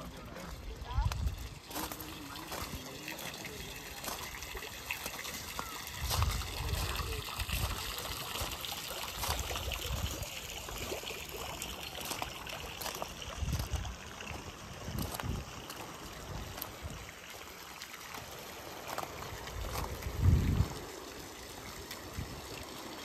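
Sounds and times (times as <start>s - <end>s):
fountain water trickling: 0.0s - 23.0s.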